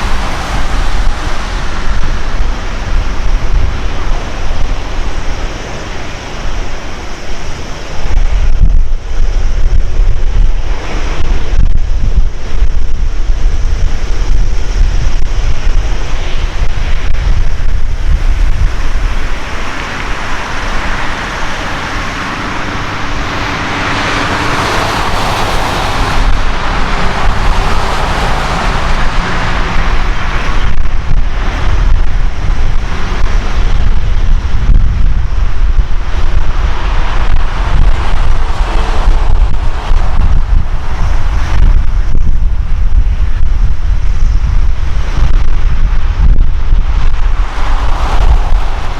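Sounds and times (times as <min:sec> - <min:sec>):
jet engines roaring at takeoff: 0:00.0 - 0:43.9, 0:44.6 - 0:48.9
wind buffeting microphone: 0:00.0 - 0:48.9.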